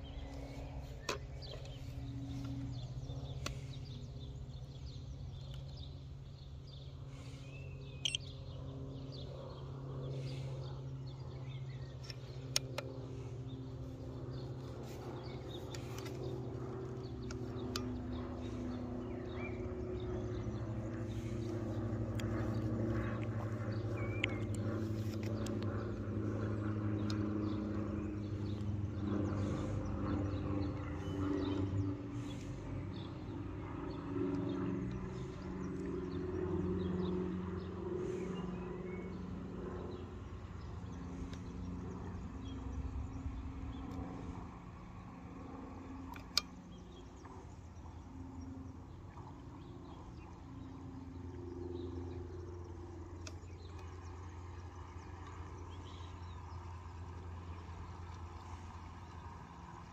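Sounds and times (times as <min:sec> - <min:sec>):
low mechanical rumble: 0:00.0 - 0:59.9.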